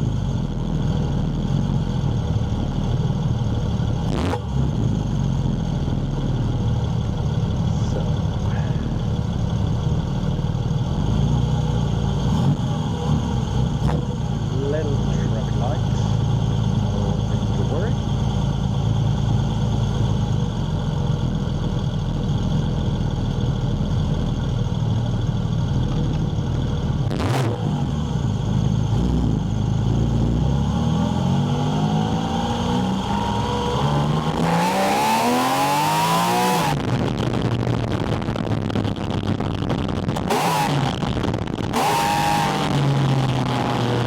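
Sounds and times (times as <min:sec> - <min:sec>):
car engine accelerating: 0:00.0 - 0:44.0.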